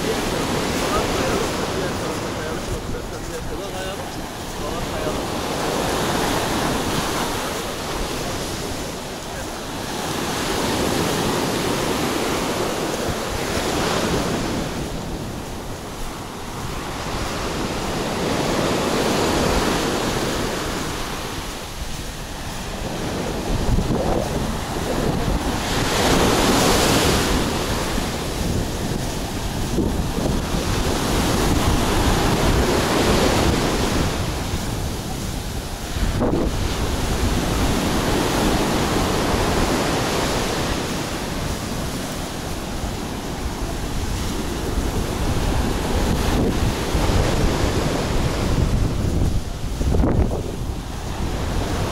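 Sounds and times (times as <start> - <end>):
surf breaking on beach: 0.0 - 51.9
wind buffeting microphone: 0.0 - 51.9.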